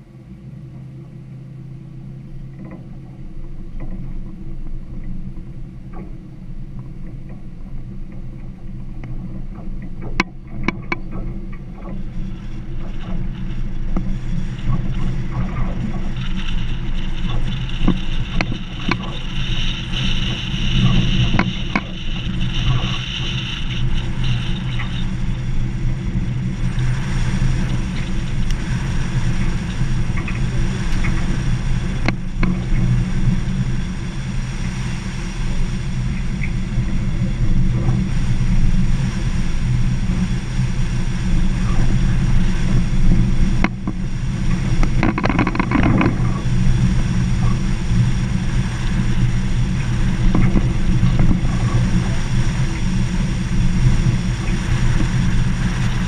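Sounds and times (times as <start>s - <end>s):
tyres on gravel road: 0.0s - 56.0s
vehicle engine running: 0.0s - 56.0s.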